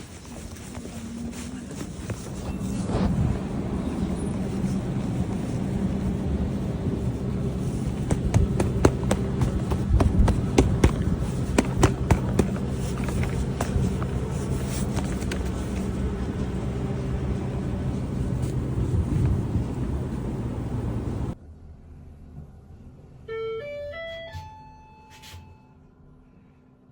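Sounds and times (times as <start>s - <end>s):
low vehicle-like hum: 0.0s - 26.9s.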